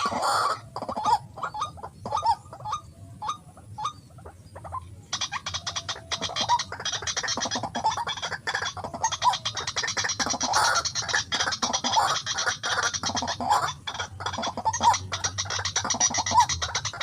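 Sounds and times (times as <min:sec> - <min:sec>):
bird rasping croaks: 0:00.0 - 0:17.0.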